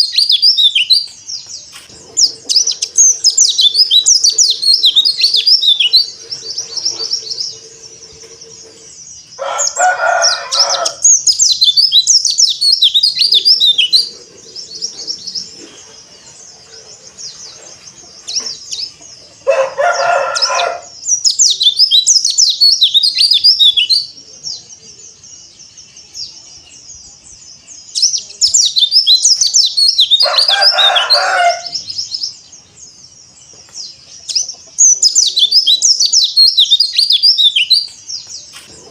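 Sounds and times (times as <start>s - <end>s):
bird chirping twitters: 0.0s - 38.9s.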